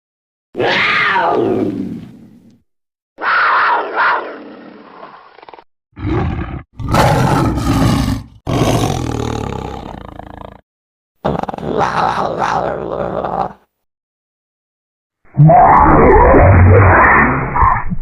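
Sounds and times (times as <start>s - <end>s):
big cat snarls and roars: 0.6s - 2.6s, 3.2s - 10.6s, 11.2s - 13.7s, 15.3s - 18.0s.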